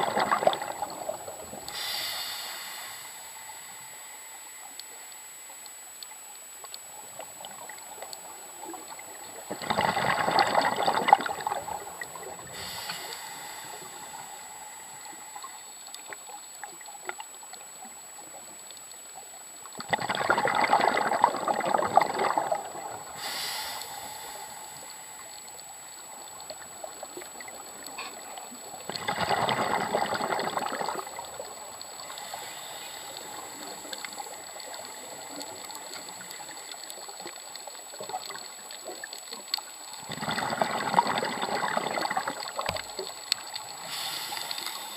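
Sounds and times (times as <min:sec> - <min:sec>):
underwater hiss: 0:00.0 - 0:18.4, 0:19.8 - 0:44.9
underwater exhaled bubbles: 0:00.0 - 0:44.9.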